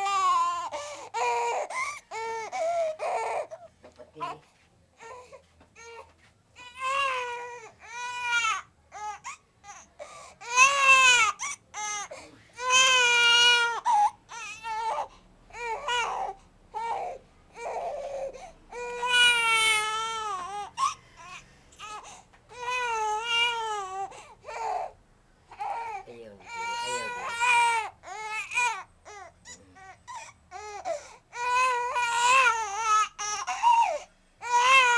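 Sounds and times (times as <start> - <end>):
baby crying: 0.0 - 4.4, 5.0 - 34.9.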